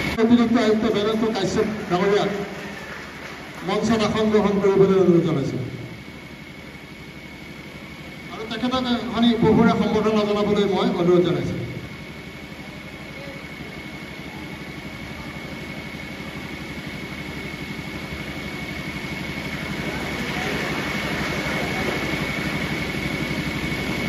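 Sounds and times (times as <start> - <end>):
fast-pulsing engine-like hum: 0.0 - 24.0
thin high whine: 0.0 - 24.0.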